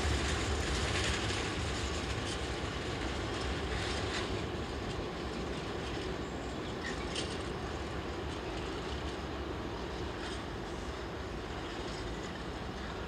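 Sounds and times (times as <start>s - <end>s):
freight train rolling rumble: 0.0s - 13.0s.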